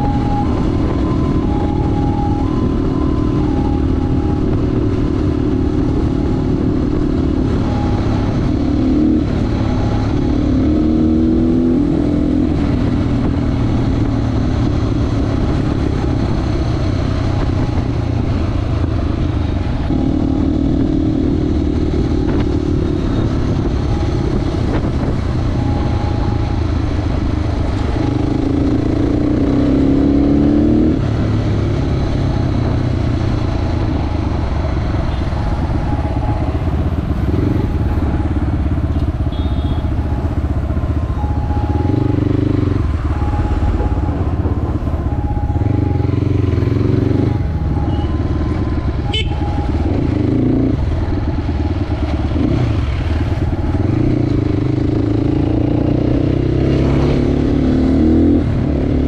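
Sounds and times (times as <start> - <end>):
loud motorcycle engine: 0.0 - 59.0.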